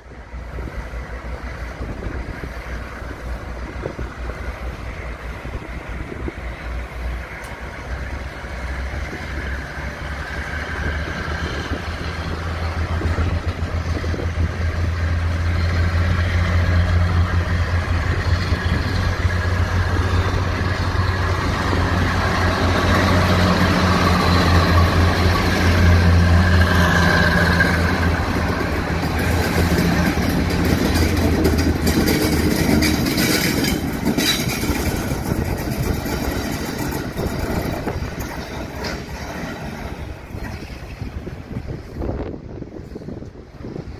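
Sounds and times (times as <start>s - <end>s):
diesel locomotives passing: 0.0s - 43.9s.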